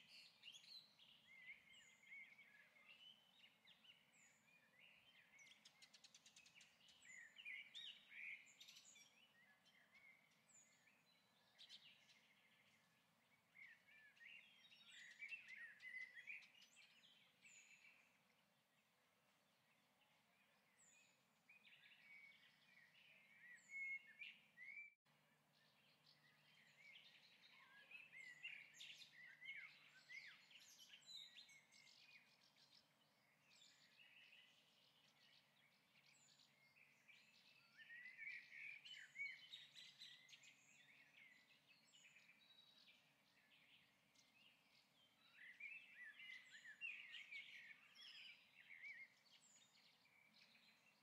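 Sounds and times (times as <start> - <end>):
faint birdsong chirps and twitters: 0.0 - 51.0.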